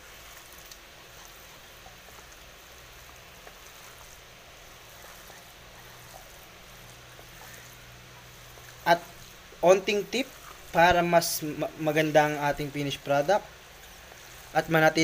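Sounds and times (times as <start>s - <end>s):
low hiss and hum: 0.0s - 15.0s.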